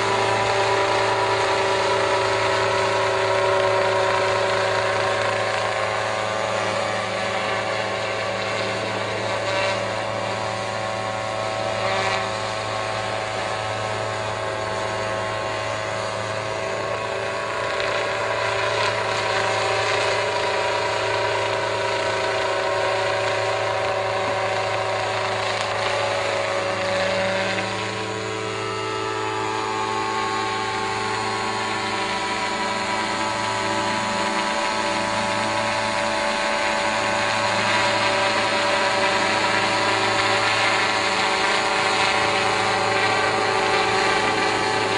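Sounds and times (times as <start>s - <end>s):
motor whining steadily: 0.0s - 44.9s.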